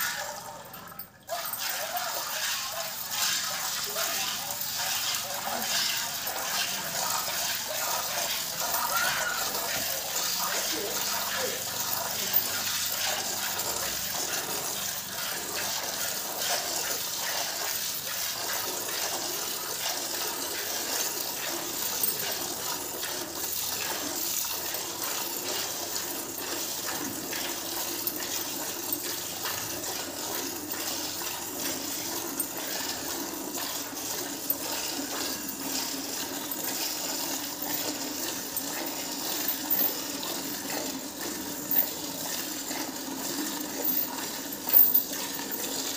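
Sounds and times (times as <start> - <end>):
milk squirting into steel bucket: 0.0 - 45.9.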